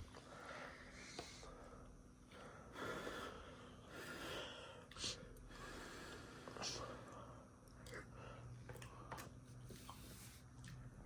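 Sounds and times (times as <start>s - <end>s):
person breathing softly: 0.2s - 9.1s.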